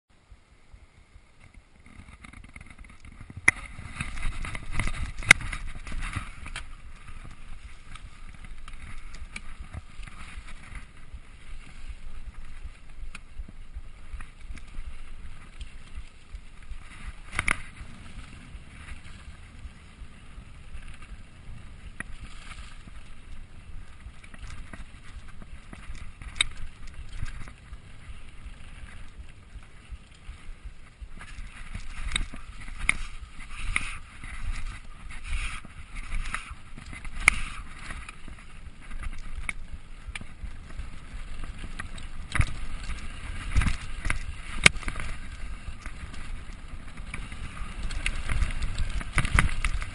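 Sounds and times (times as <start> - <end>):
bike tyres on dirt trail: 0.1 - 49.9.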